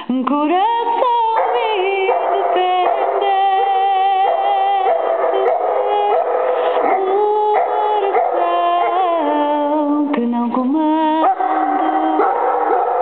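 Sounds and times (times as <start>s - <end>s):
woman singing: 0.0s - 13.0s
dog howling: 0.9s - 9.7s, 11.2s - 13.0s.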